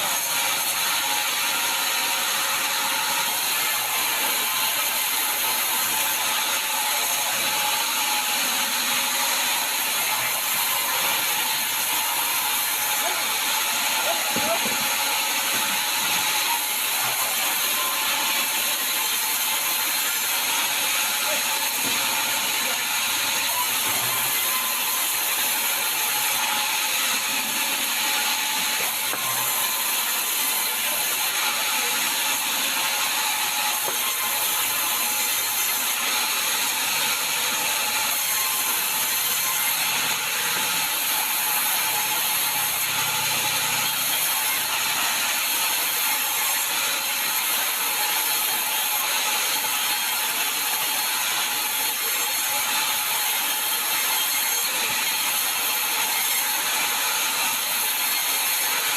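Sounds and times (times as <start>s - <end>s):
sawmill saw cutting log: 0.0s - 58.9s.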